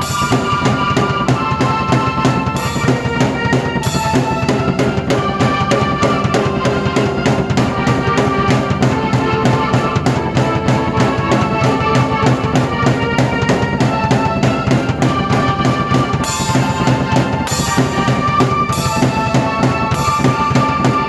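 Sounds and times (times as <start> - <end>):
drum beat: 0.0 - 21.0
keyboard chords: 0.0 - 21.0.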